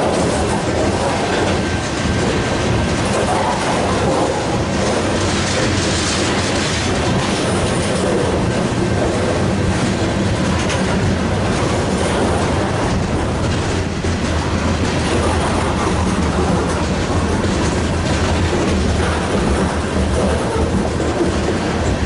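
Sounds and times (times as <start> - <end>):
train cars rolling past: 0.0 - 22.0.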